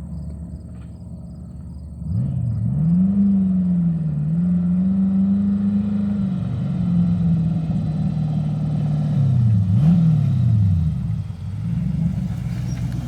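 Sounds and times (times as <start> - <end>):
sports car engine accelerating: 0.2 - 13.0.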